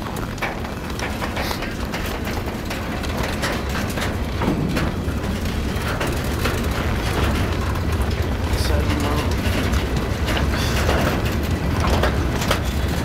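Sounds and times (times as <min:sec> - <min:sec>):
irregular clicks and knocks: 0:00.0 - 0:13.0
low rumble: 0:00.1 - 0:13.0.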